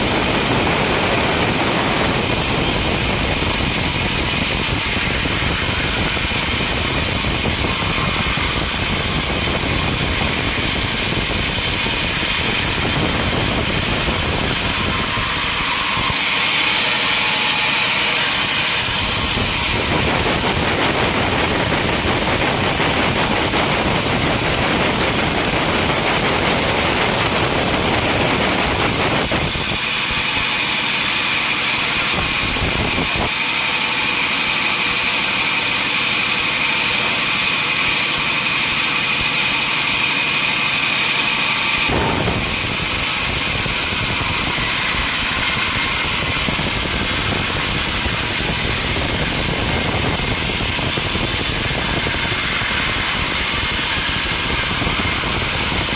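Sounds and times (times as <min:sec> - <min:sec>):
high steady whine: 0:00.0 - 0:55.9
sawmill machinery running: 0:00.0 - 0:55.9.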